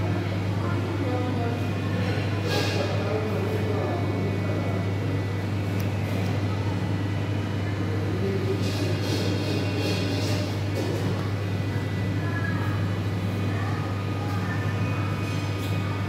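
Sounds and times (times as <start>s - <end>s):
restaurant background hum: 0.0s - 16.0s.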